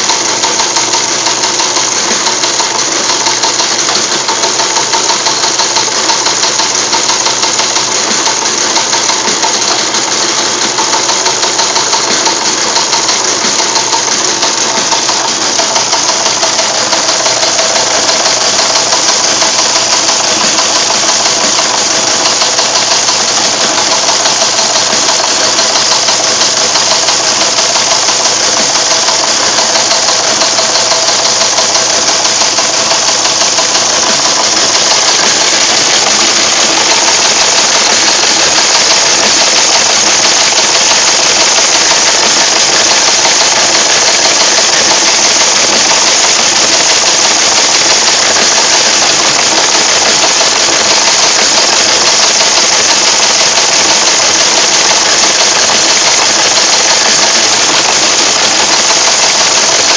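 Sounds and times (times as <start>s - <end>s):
printer mechanism running: 0.0s - 59.9s
teleprinter typebars clattering: 0.0s - 59.9s.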